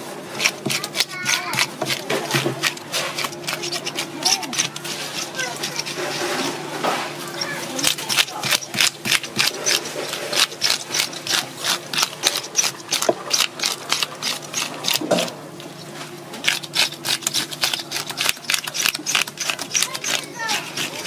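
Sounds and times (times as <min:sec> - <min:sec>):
fish scaler scraping scales: 0:00.0 - 0:21.0.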